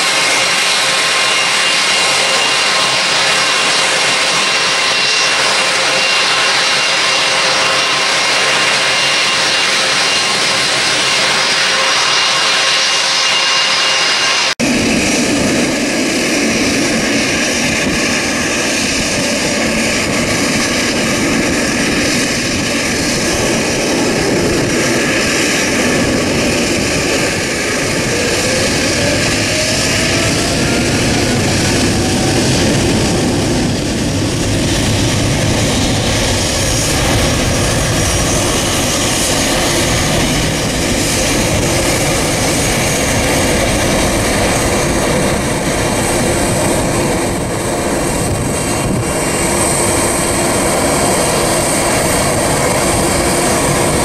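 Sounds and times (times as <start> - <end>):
jet engines roaring: 0.0 - 54.0
rising whine: 0.0 - 54.0.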